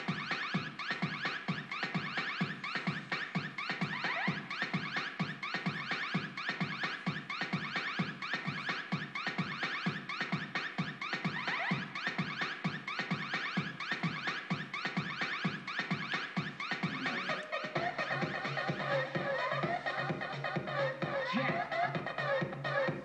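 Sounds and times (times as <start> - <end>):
electronic dance beat: 0.0 - 23.0
siren-like synth sweep: 0.0 - 23.0.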